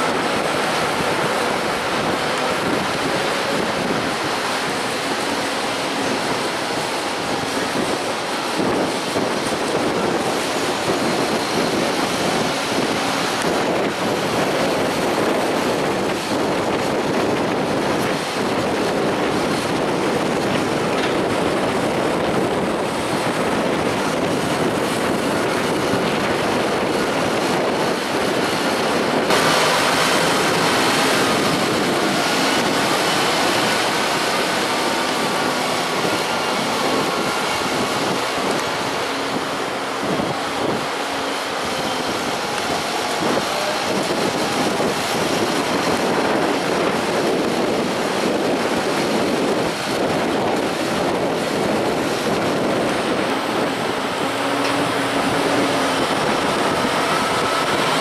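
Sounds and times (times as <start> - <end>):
tractor diesel engines under load: 0.0 - 58.0.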